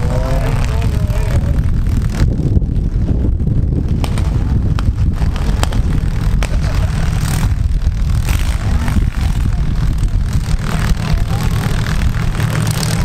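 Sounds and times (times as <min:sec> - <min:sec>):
car engines running rough: 0:00.0 - 0:13.0.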